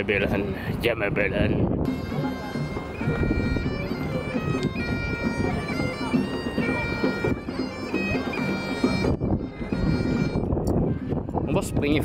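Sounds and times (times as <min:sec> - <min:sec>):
bagpipes playing a tune: 0:01.9 - 0:12.0.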